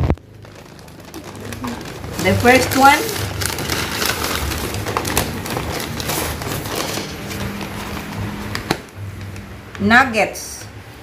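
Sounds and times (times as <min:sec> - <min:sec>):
paper bag rustling: 0:00.0 - 0:09.7.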